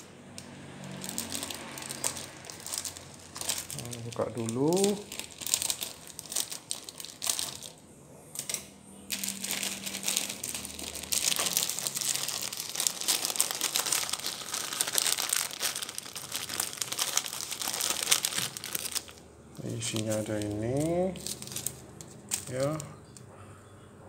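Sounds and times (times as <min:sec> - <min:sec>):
plastic wrapper crinkling: 0:00.7 - 0:07.8, 0:08.4 - 0:22.9.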